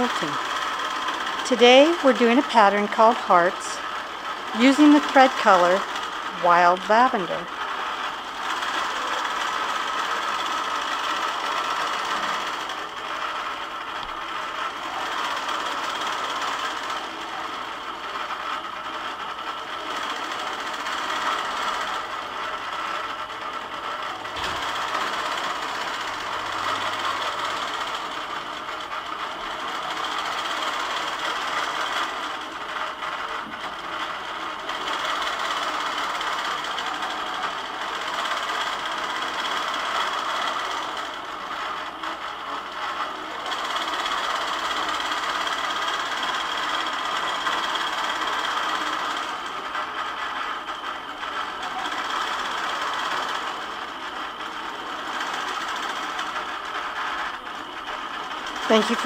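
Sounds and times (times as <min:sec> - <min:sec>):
quilting machine stitching: 0:00.0 - 0:59.0.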